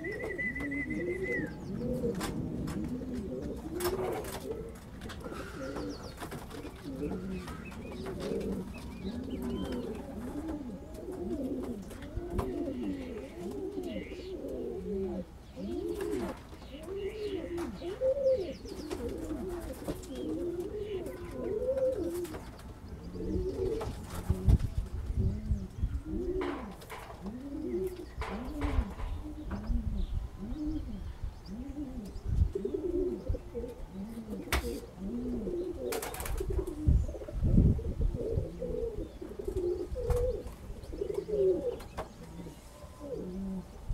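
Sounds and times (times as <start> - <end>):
pigeons cooing: 0.0 - 43.9.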